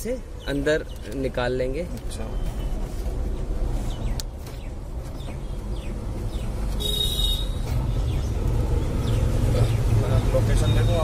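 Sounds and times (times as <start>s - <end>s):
rumble of motor vehicles: 0.0s - 11.0s.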